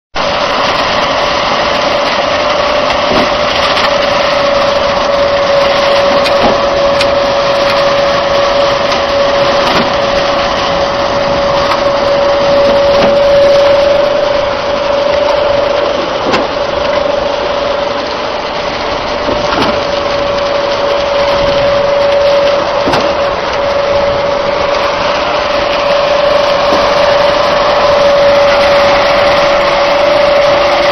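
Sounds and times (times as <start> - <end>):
concrete pump whining: 0.1 - 30.9.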